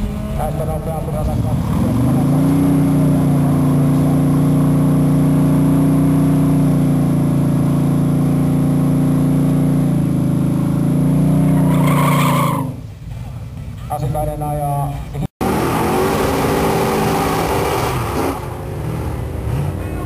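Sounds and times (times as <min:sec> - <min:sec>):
drag car engine revving: 0:00.0 - 0:12.9, 0:15.4 - 0:20.0.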